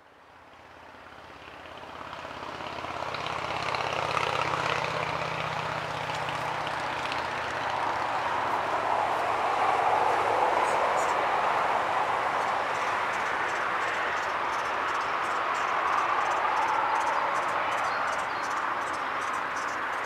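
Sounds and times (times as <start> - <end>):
propeller aircraft engine drone: 0.2 - 20.0.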